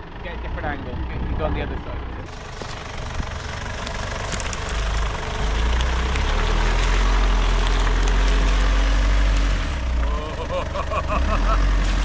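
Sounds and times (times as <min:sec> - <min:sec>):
pickup engine running under load: 0:00.0 - 0:12.0
tyres churning through mud: 0:01.7 - 0:12.0.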